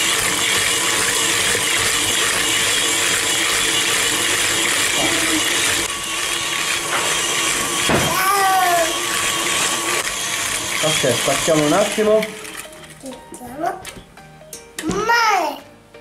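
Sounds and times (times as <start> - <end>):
stand mixer whisking: 0.0 - 13.0.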